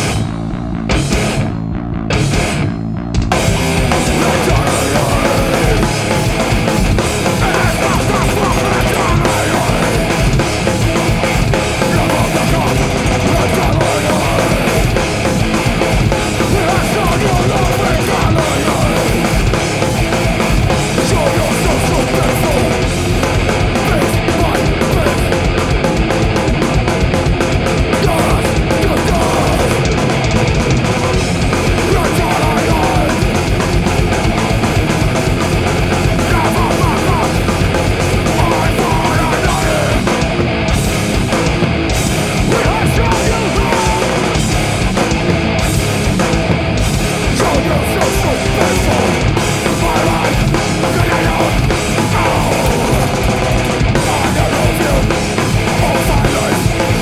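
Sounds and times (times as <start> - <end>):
heavy rock band playing live: 0.0 - 57.0.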